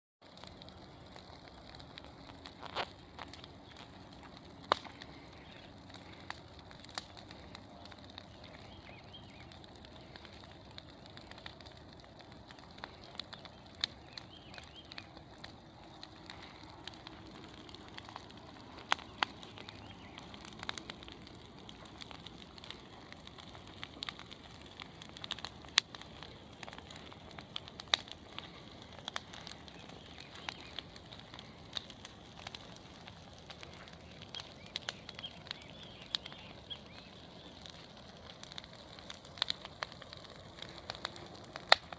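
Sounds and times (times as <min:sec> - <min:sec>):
bonfire flames rushing: 0:00.2 - 0:41.9
fire crackling and popping: 0:00.2 - 0:41.9.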